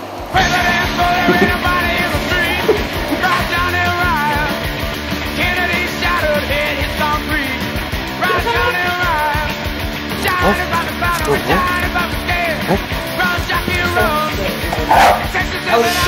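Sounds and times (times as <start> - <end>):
rock music with singer: 0.4 - 16.0.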